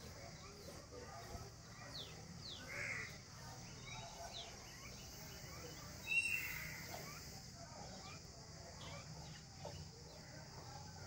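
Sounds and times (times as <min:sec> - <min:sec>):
birds chirping: 0:00.0 - 0:11.0
outdoor background hiss: 0:00.0 - 0:11.0.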